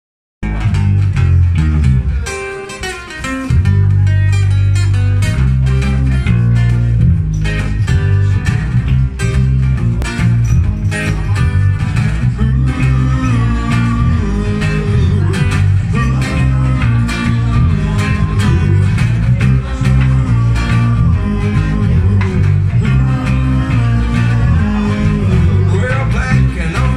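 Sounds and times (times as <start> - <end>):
acoustic guitar playing: 0.4 - 26.9
electric bass line: 0.4 - 26.9.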